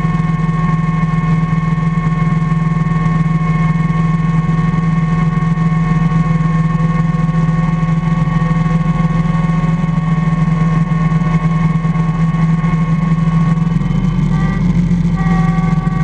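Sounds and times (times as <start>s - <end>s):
high whine: 0.0s - 16.0s
tractor engine drone: 0.0s - 16.0s.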